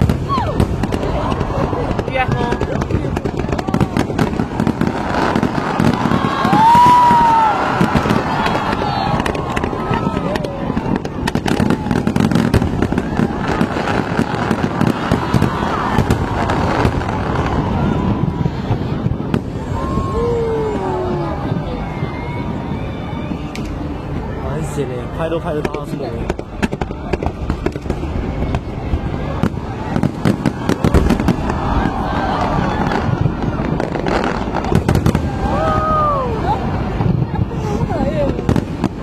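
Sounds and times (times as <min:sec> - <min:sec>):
fireworks cracks and pops: 0:00.0 - 0:21.0, 0:25.5 - 0:39.0.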